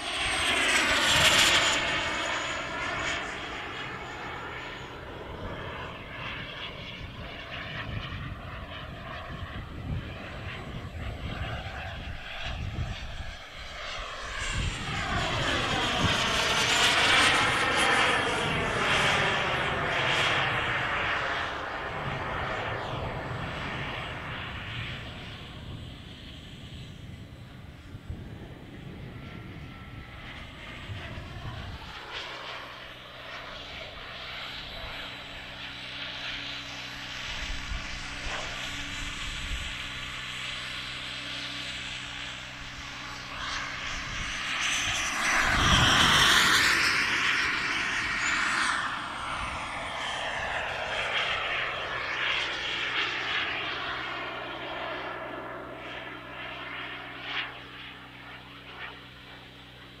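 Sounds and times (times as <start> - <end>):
model jet turbine whine: 0.0 - 60.0.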